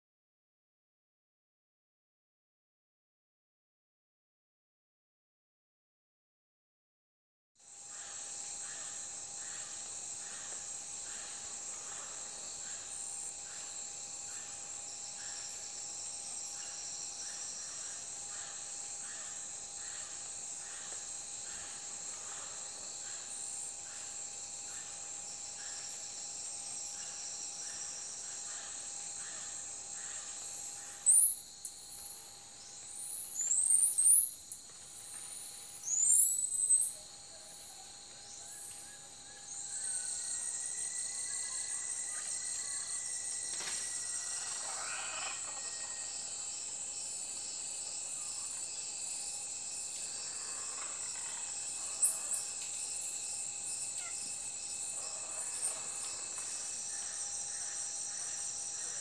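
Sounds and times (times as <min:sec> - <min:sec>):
high insect trill: 0:07.6 - 0:59.0
insects shrilling in chorus: 0:07.8 - 0:59.0.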